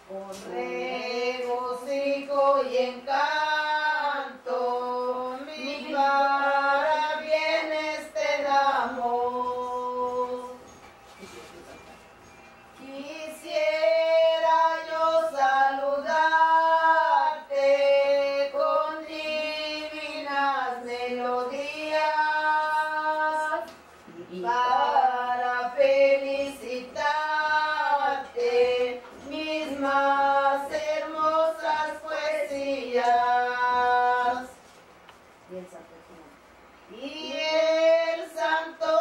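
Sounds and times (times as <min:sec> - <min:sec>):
women singing together: 0:00.0 - 0:10.9, 0:12.7 - 0:34.8, 0:36.8 - 0:39.0.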